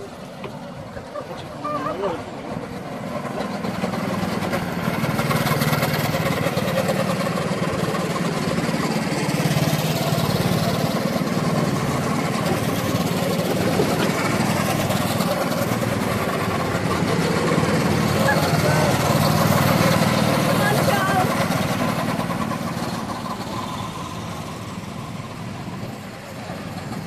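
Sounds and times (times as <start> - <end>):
go-kart engines droning: 0.0 - 27.0.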